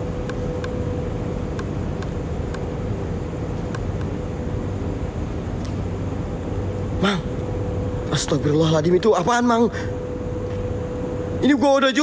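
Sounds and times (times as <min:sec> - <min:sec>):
constant hum: 0:00.0 - 0:12.0
low background rumble: 0:00.0 - 0:12.0.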